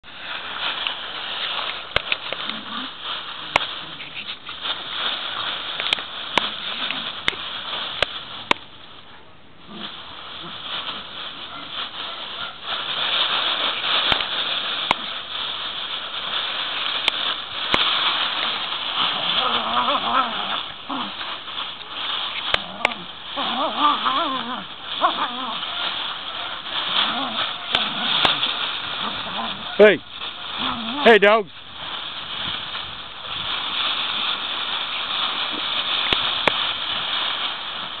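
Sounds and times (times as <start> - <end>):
dry leaves rustling and crunching: 0.0 - 38.0
sharp crackles: 0.0 - 38.0.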